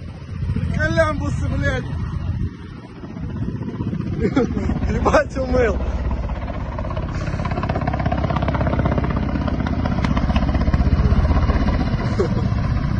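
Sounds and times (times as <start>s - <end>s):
helicopter rotor beating: 0.0s - 12.9s.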